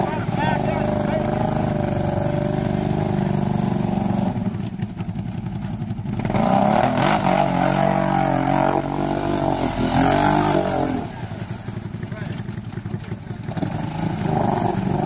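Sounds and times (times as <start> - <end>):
churning through mud and water: 0.0 - 4.9, 6.1 - 15.0
atv engine revving: 0.0 - 15.0.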